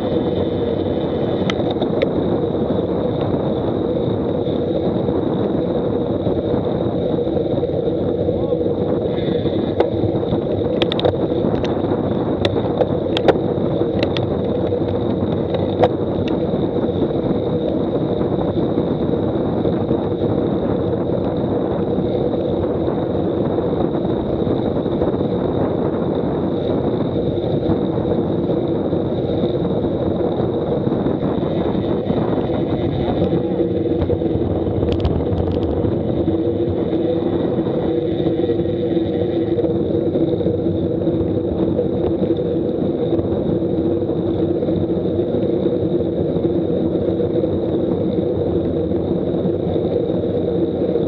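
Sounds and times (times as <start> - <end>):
bicycle road noise on asphalt: 0.0 - 51.0
wind on microphone: 0.0 - 51.0.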